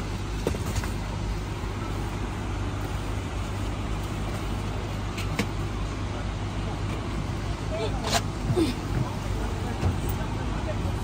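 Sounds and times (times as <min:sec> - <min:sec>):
road noise: 0:00.0 - 0:11.0
vehicle engine hum: 0:00.0 - 0:11.0.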